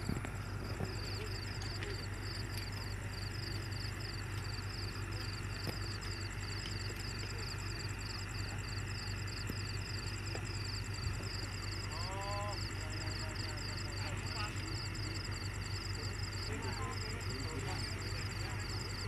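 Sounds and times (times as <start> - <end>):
heavy machine engine humming: 0.0 - 19.0
insects chirping: 0.0 - 19.0.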